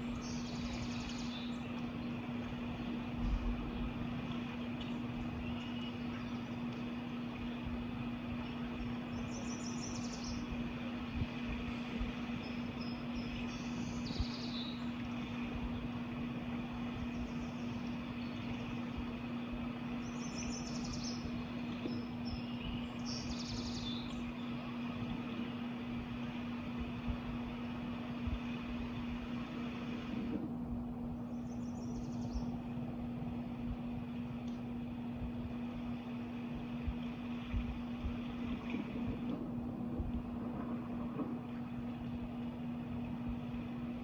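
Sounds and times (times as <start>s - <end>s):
birds chirping: 0.0s - 30.2s, 31.0s - 38.5s
steady low hum: 0.0s - 44.0s.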